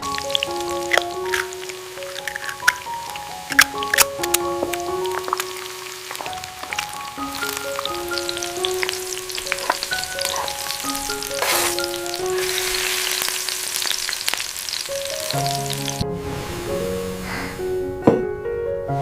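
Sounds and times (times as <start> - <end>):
food sizzling in a pan: 0.0 - 17.6
soft melody of held notes: 0.0 - 19.0.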